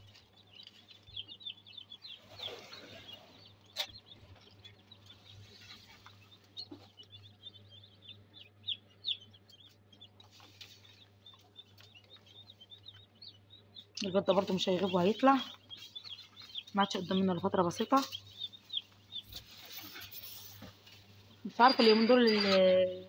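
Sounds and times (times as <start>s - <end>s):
high bird chirps: 0.0s - 23.0s.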